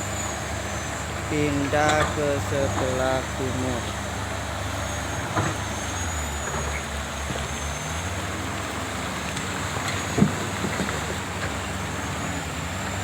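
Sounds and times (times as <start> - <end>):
excavator diesel engines running: 0.0 - 13.0.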